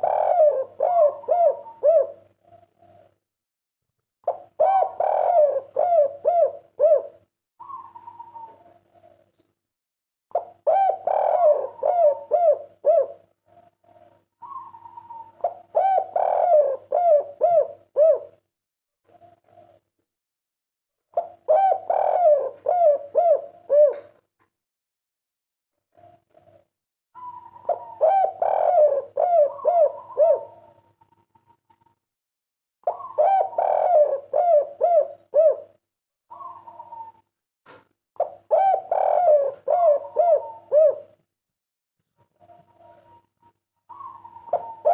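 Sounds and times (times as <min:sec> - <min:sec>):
dove cooing: 0:00.0 - 0:03.2, 0:04.3 - 0:09.4, 0:10.3 - 0:18.4, 0:19.1 - 0:19.8, 0:21.2 - 0:24.2, 0:25.9 - 0:31.9, 0:32.8 - 0:37.3, 0:38.2 - 0:41.2, 0:42.4 - 0:44.9.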